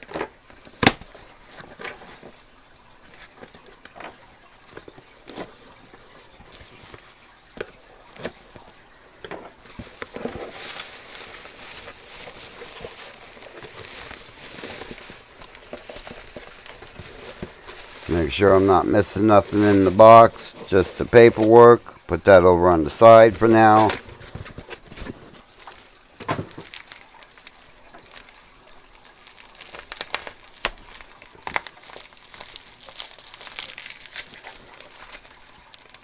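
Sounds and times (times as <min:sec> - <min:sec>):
cardboard and bubble wrap rustling: 0:00.0 - 0:36.0.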